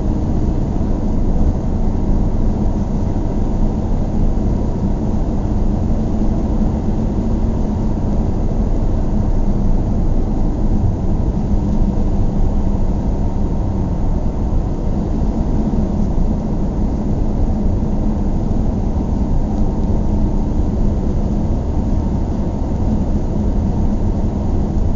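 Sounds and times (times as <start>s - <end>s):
car engine rumble: 0.0s - 24.9s.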